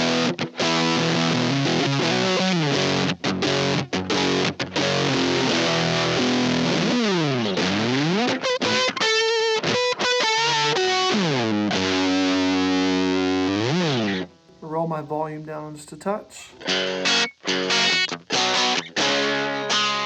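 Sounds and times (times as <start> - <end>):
fuzz electric guitar: 0.0 - 14.6, 16.5 - 20.0.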